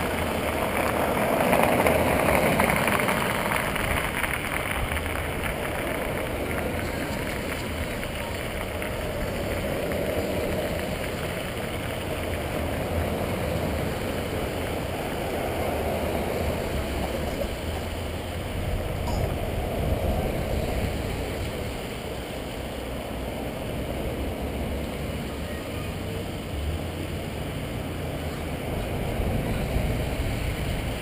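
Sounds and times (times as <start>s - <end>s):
vehicles driving slowly past: 0.0s - 31.0s.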